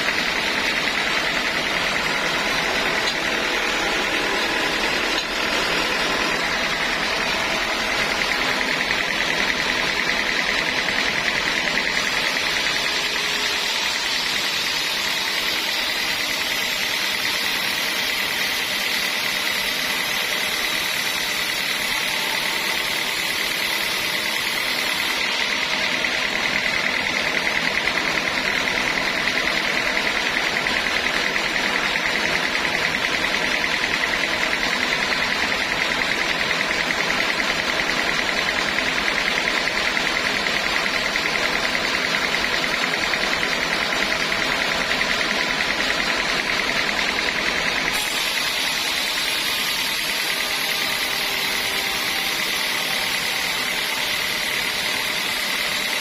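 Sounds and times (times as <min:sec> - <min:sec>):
sawmill saw cutting wood: 0:00.0 - 0:56.0.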